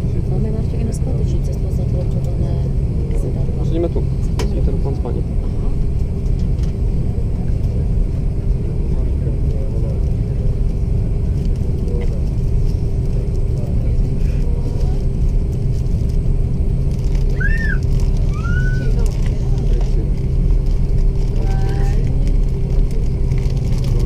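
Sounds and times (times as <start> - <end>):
jet cabin engine rumble: 0.0 - 24.0
steady low hum: 0.0 - 24.0.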